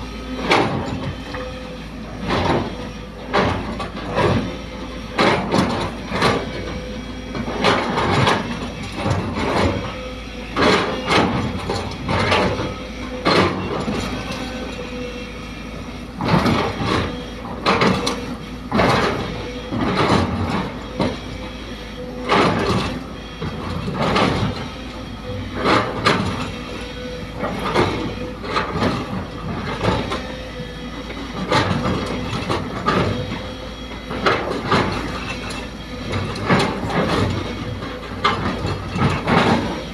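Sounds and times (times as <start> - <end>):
excavator engine whining: 0.0 - 39.9.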